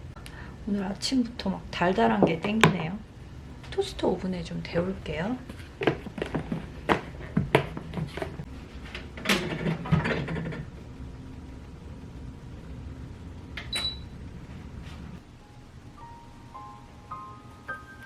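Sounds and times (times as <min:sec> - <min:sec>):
toaster oven humming: 0:00.0 - 0:18.0.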